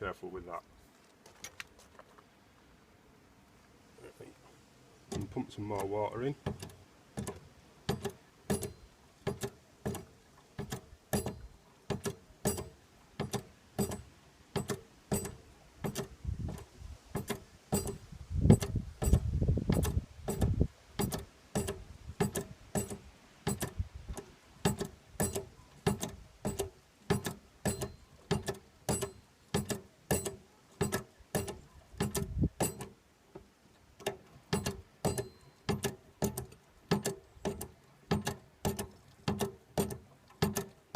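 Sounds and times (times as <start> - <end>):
hand pump clicking: 5.1 - 33.0, 34.0 - 40.9.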